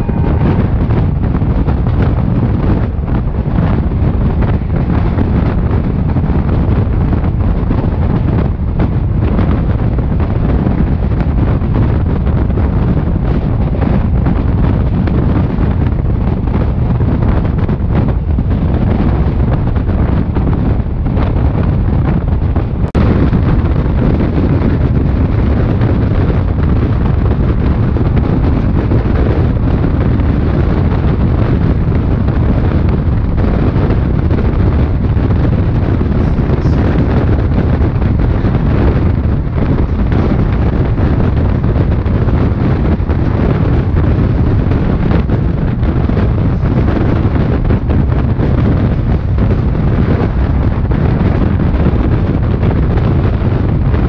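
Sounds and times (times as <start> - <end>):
train wheels rumbling on rails: 0.0 - 54.0
wind buffeting microphone: 0.0 - 54.0
wind rushing at train door: 0.0 - 54.0.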